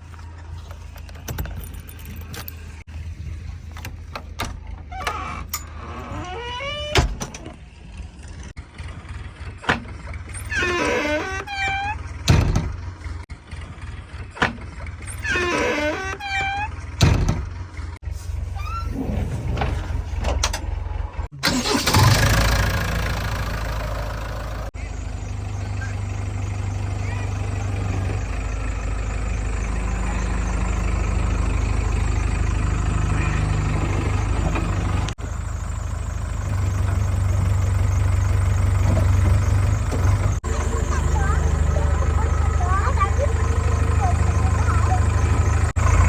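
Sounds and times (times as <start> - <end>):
diesel engine rumbling: 0.0 - 46.0.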